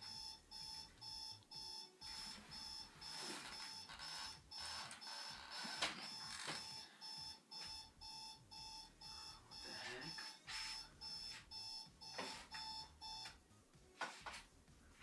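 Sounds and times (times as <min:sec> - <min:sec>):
alarm beeping: 0:00.0 - 0:13.4.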